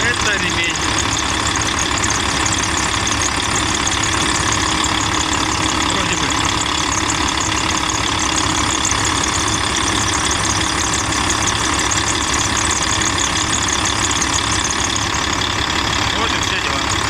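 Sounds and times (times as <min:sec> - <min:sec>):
drive belt whistle: 0:00.0 - 0:15.4
diesel engine idling: 0:00.0 - 0:17.0.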